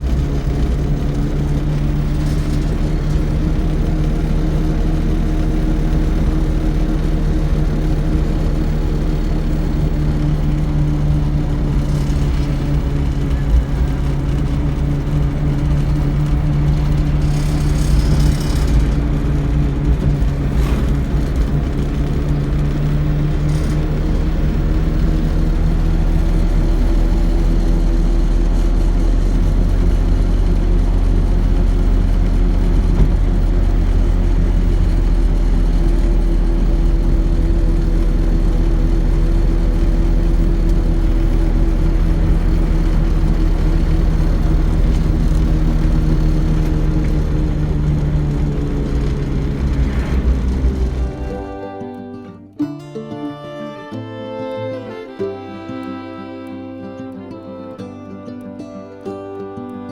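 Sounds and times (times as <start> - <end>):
road noise: 0.0 - 52.7, 53.4 - 58.2
electric motor drone: 0.1 - 51.9.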